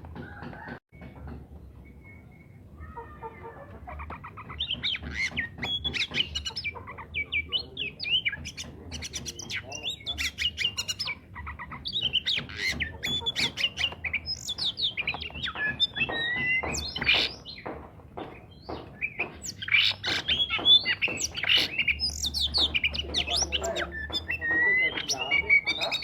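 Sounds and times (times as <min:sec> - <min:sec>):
bird harsh squawky calls: 0:02.8 - 0:26.0.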